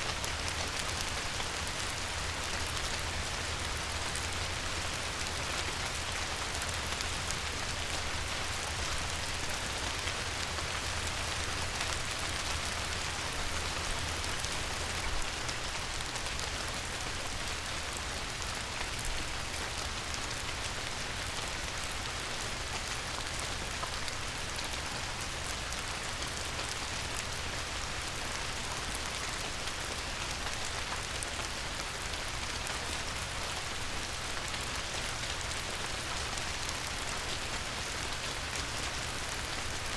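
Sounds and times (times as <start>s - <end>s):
rain on a river: 0.0s - 39.9s.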